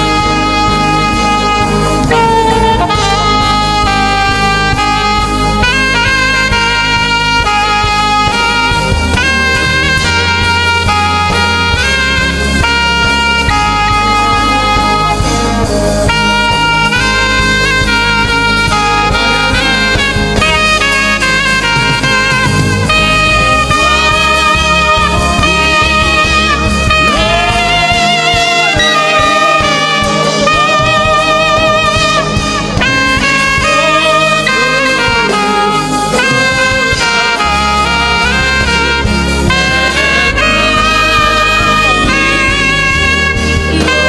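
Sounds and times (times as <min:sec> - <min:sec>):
gospel band playing: 0:00.0 - 0:44.0
saxophone melody with vibrato: 0:00.0 - 0:44.0.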